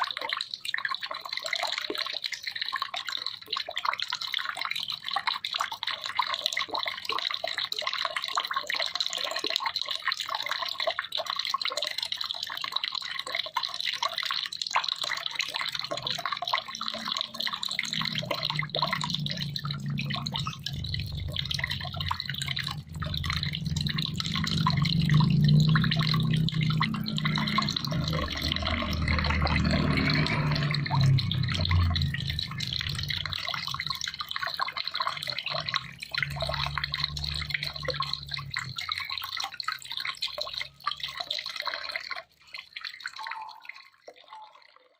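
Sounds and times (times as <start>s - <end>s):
low rumble of flowing water: 0.0s - 44.9s
water dripping and trickling: 0.0s - 44.9s.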